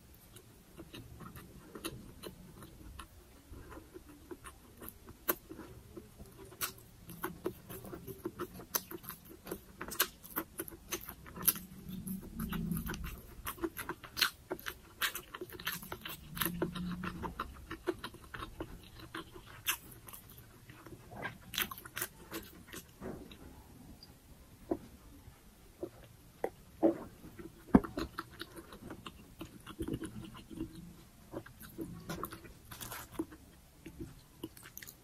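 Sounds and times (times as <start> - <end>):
chewing food: 0.0 - 23.6, 25.8 - 35.0.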